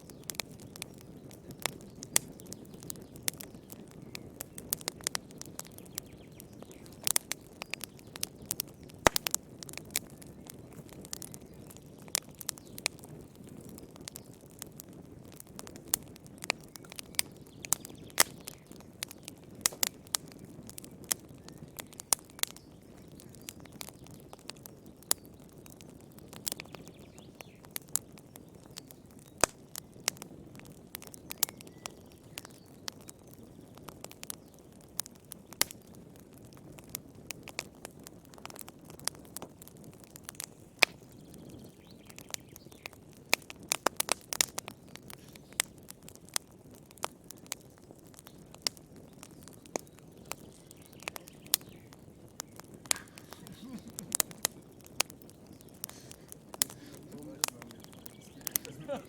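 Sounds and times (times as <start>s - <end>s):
soft hiss of flames: 0.0s - 59.0s
wood fire crackling and popping: 0.0s - 59.0s.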